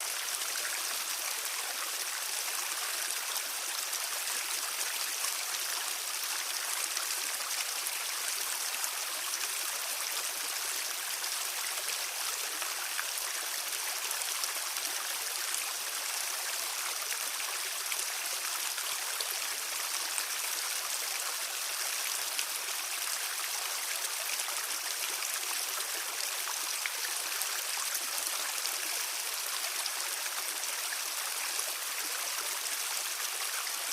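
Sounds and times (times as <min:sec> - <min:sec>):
stream flowing over stones: 0:00.0 - 0:33.9.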